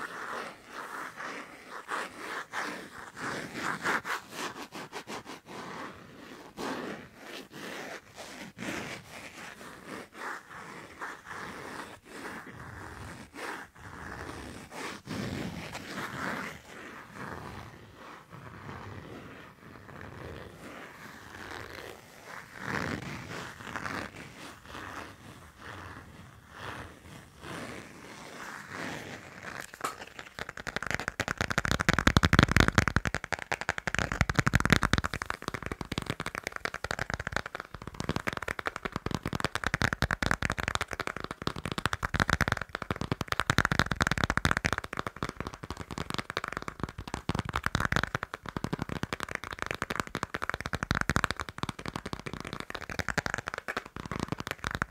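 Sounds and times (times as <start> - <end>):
tapping and scratching on passport: 0.0 - 54.9.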